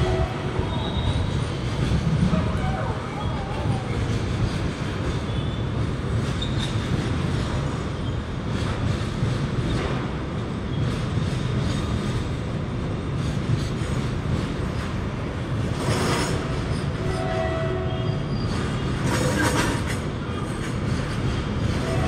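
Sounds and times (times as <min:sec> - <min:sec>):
train wheel squeals: 0:00.0 - 0:12.2, 0:15.7 - 0:22.0
train wheels rumbling on rail: 0:00.0 - 0:22.0.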